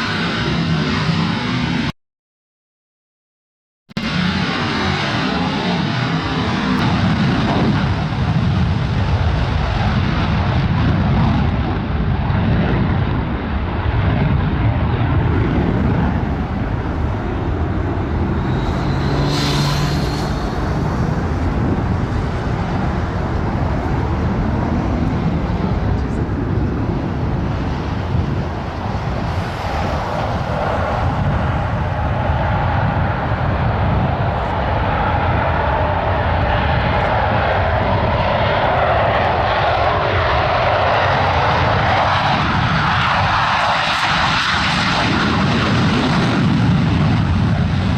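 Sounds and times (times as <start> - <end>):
airplane engines rumbling: 0.0 - 1.9, 3.9 - 47.9
high engine whine: 0.0 - 1.9, 3.9 - 47.9.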